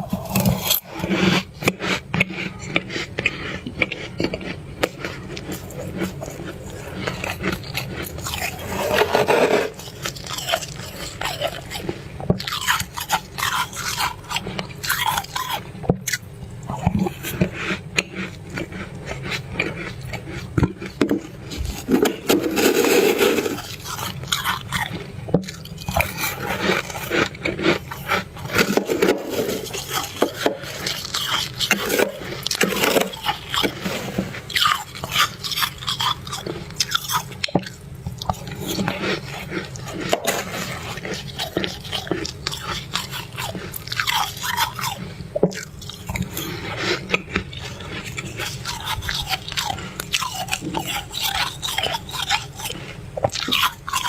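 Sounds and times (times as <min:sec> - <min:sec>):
crunching and chewing frost: 0:00.0 - 0:54.0.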